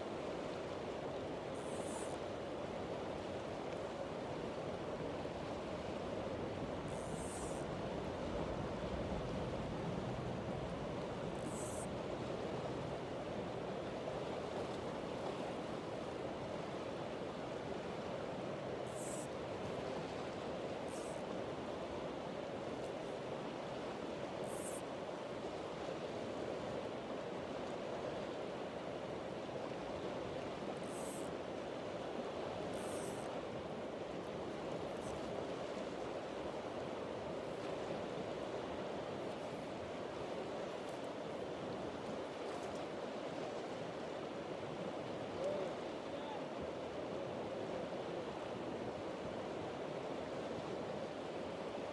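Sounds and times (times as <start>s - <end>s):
river water rushing: 7.4s - 51.9s.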